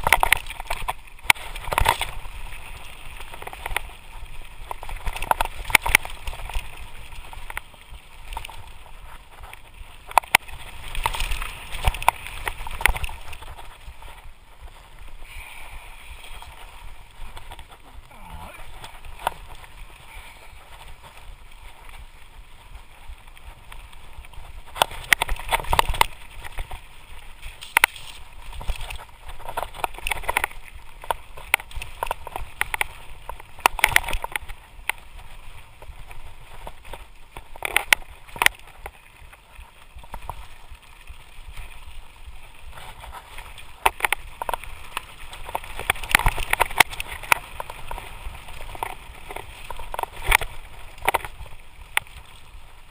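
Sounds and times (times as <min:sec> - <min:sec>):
bike clattering and rattling: 0:00.0 - 0:52.9.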